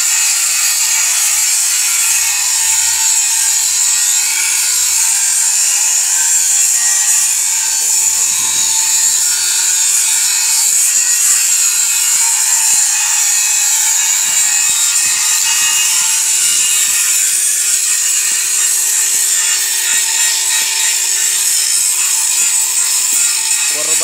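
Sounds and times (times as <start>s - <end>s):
arc welding crackling hiss: 0.0s - 24.0s.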